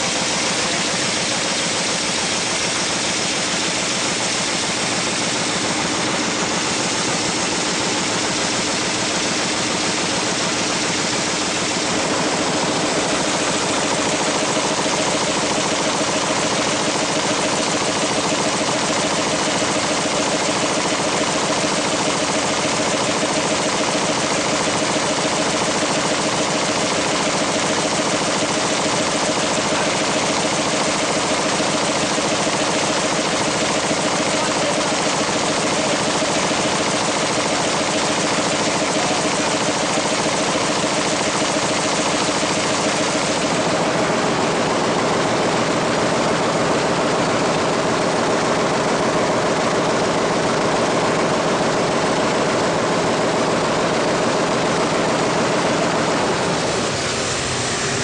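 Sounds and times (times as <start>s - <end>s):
folding machine clatter: 0.0s - 58.0s.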